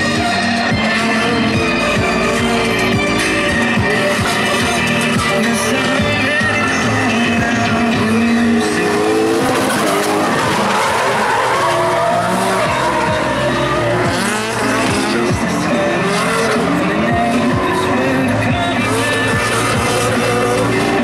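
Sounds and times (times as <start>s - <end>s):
car engines revving: 0.0s - 21.0s
tyres squealing and skidding: 0.0s - 21.0s.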